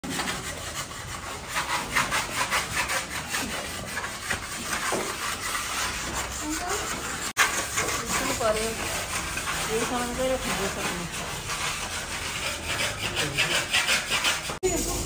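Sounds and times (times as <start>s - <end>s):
metal scraper rasping on concrete: 0.0s - 15.0s.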